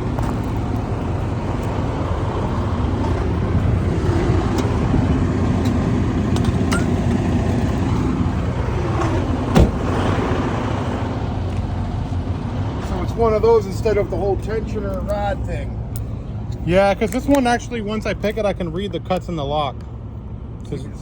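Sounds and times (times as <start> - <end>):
motor vehicle rumble: 0.0 - 21.0.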